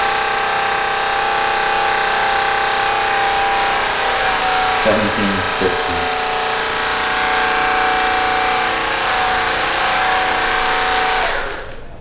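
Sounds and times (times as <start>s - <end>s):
massage gun motor hum: 0.0s - 12.0s.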